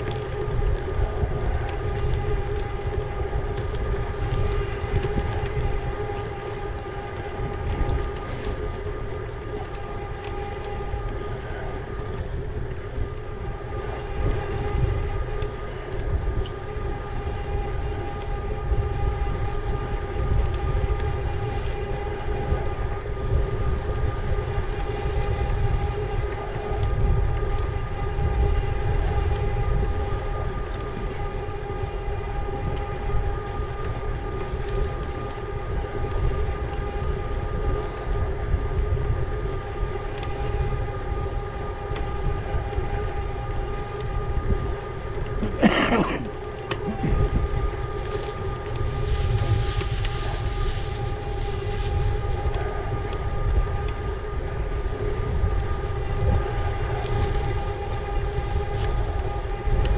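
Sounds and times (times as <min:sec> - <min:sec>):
electric bike motor whining: 0:00.0 - 0:59.9
wind rumble on microphone: 0:00.0 - 0:59.9.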